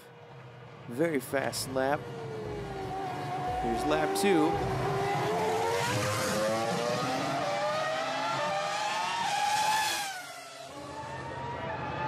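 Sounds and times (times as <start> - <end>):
race car engine accelerating: 1.6 - 12.0.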